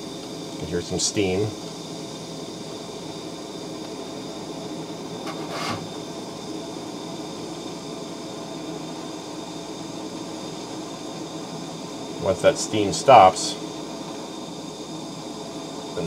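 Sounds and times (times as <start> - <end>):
gas torch flame: 0.0 - 16.0
steam hissing from pipe: 0.0 - 16.0.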